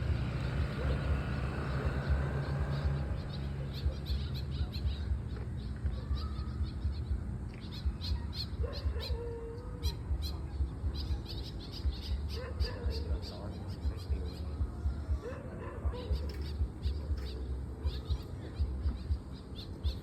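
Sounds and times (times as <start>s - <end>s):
birds chirping: 0.0s - 20.0s
steady low rumble: 0.0s - 20.0s.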